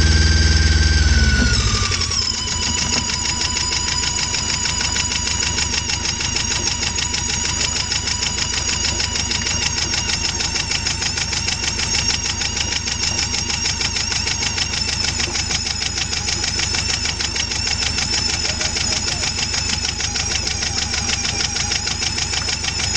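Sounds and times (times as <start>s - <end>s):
diesel engine running: 0.0s - 22.9s
high gearbox whine: 0.0s - 22.9s.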